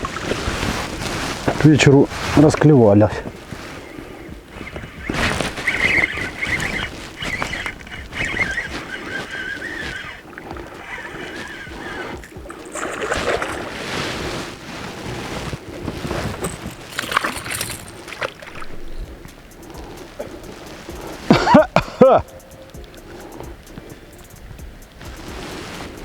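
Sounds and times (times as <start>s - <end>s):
water sloshing around boat: 0.0s - 26.0s.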